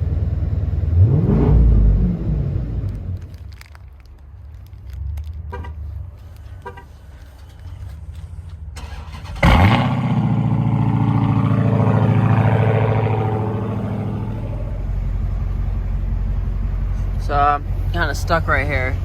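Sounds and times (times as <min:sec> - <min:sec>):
car engine starting and idling: 0:00.0 - 0:19.0
low background rumble: 0:00.0 - 0:19.0.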